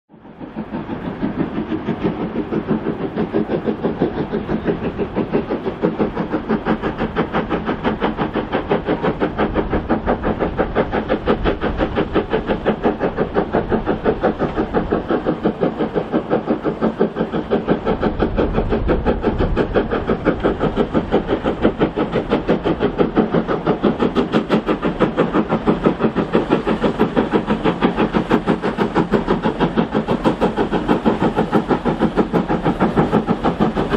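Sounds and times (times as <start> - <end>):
steam locomotive exhaust beats: 0.1 - 33.9.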